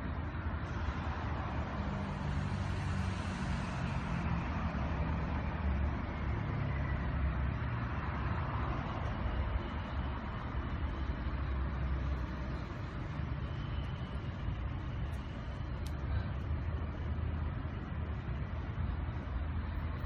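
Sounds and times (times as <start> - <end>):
road traffic rumble: 0.0 - 20.0
vehicle engine hum: 0.0 - 20.0.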